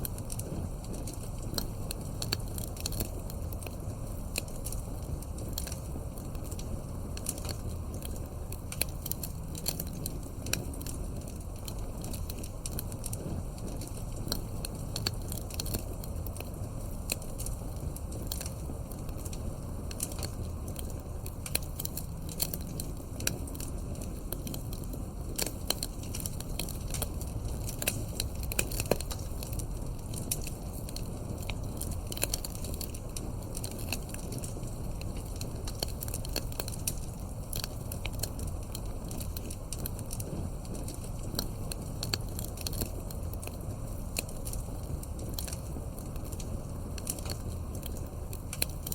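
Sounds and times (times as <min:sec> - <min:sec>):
low rumble of burning logs: 0:00.0 - 0:48.9
wood fire crackling and popping: 0:00.0 - 0:48.9.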